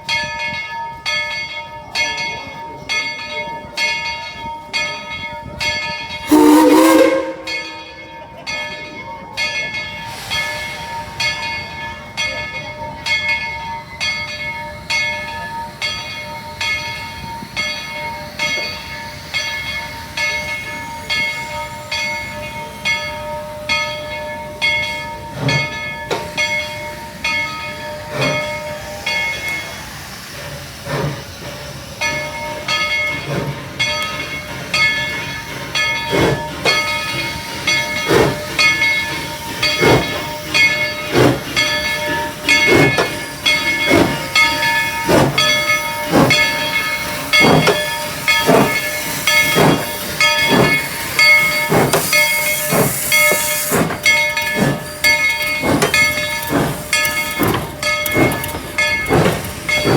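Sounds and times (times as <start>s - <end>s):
steam locomotive bell ringing: 0.0s - 59.9s.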